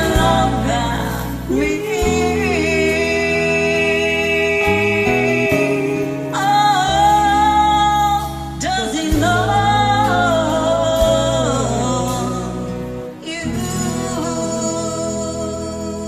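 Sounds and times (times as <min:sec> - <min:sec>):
karaoke backing track: 0:00.0 - 0:16.0
women singing karaoke duet: 0:00.0 - 0:16.0.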